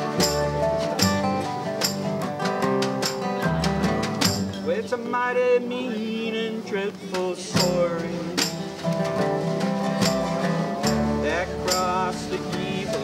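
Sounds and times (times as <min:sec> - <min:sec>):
hand drum: 0:00.0 - 0:04.8, 0:07.1 - 0:13.0
acoustic guitars strummed: 0:00.0 - 0:13.0
dobro sliding notes: 0:00.0 - 0:13.0
upright bass: 0:00.0 - 0:13.0.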